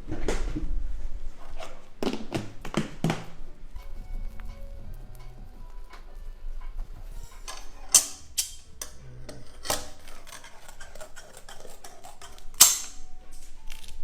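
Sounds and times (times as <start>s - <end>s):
kitchen tools clicking and tapping: 1.6s - 14.0s.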